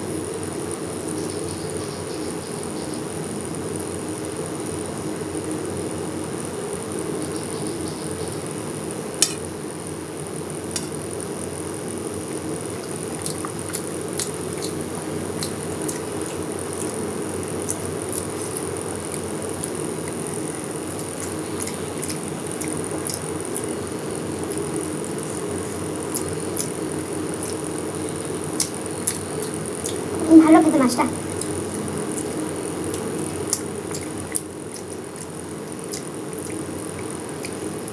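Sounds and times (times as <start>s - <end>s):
steady background hum: 0.0s - 37.9s.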